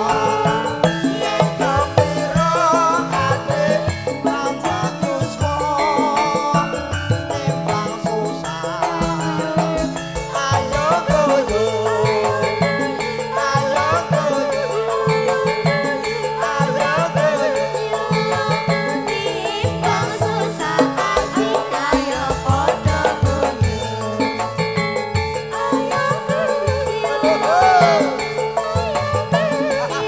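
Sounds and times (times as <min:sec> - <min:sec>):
busy drum rhythm: 0:00.0 - 0:30.0
ornamented keyboard melody: 0:00.0 - 0:30.0.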